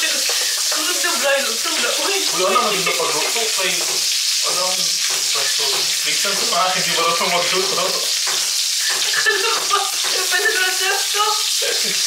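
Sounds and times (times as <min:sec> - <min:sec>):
hotdogs sizzling in hot oil: 0:00.0 - 0:12.0.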